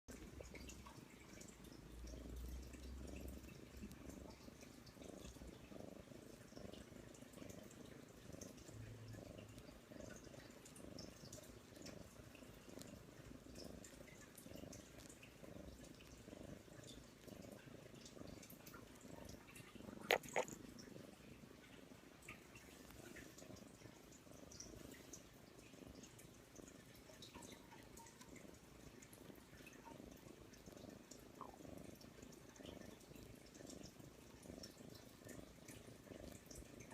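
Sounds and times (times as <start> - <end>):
kitten purring: 0.1 - 36.9.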